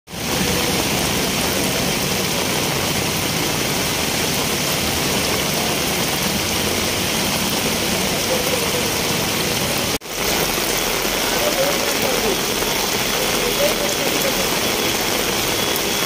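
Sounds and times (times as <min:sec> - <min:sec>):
heavy rain pouring: 0:00.1 - 0:16.0
rushing floodwater: 0:00.1 - 0:16.0.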